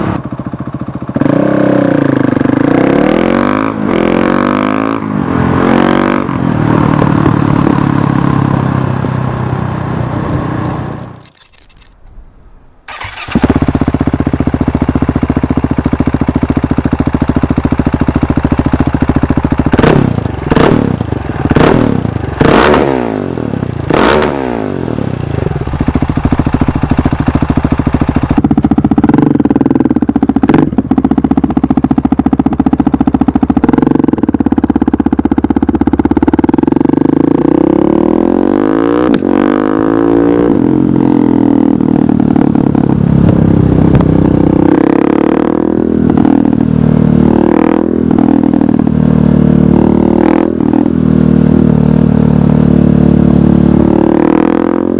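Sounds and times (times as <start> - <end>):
motorcycle engine revving: 0.0 - 12.0, 12.6 - 54.9.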